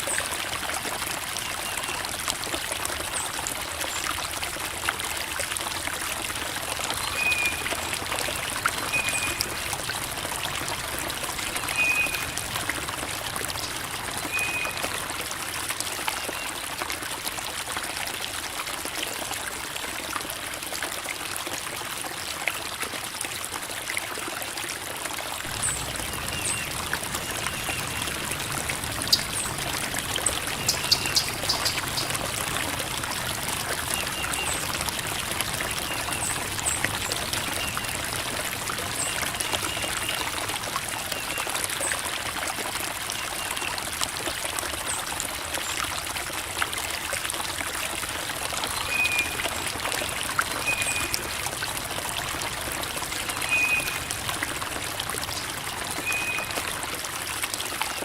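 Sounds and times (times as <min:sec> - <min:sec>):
creek water babbling over rocks: 0:00.0 - 0:58.0.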